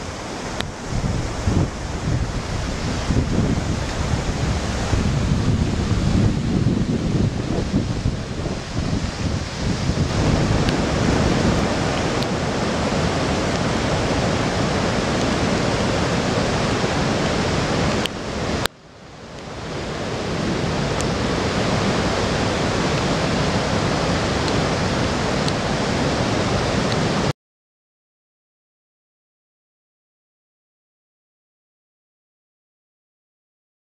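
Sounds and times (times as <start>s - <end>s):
rushing floodwater over rapids: 0.0s - 27.3s.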